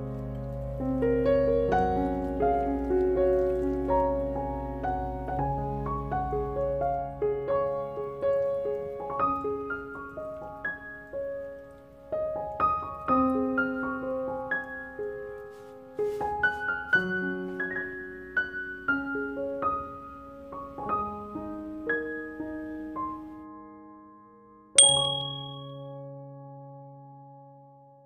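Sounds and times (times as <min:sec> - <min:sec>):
piano melody: 0:00.0 - 0:27.4.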